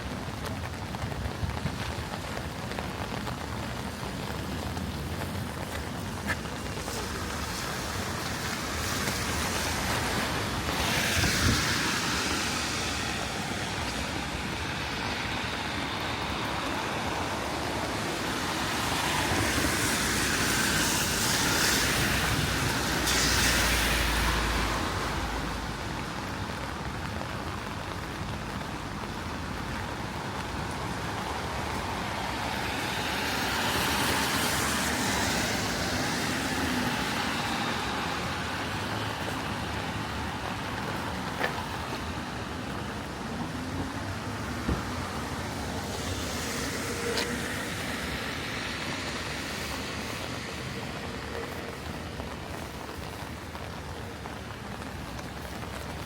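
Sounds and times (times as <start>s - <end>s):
car tyres hissing on wet road: 0.0s - 56.0s
rain: 0.0s - 56.0s
traffic noise: 0.0s - 56.0s.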